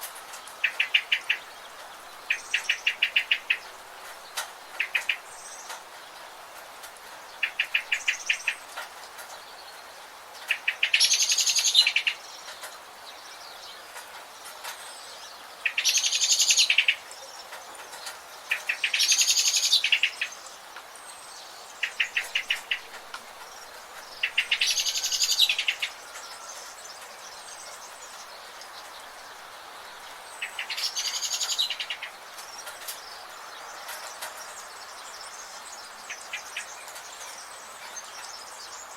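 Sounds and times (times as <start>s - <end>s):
background hiss: 0.0s - 38.9s
bird trilled song: 0.4s - 5.8s, 7.3s - 38.9s.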